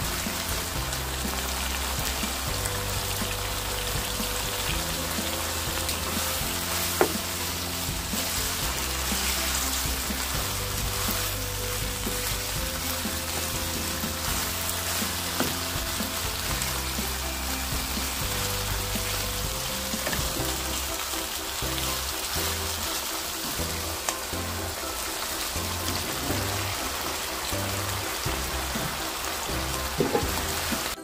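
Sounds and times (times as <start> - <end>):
chicken sizzling in a wok: 0.0 - 31.0.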